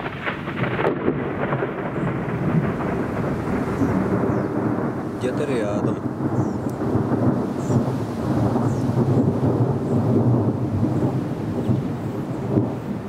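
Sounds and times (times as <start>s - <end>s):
thunder rolling: 0.0s - 13.0s.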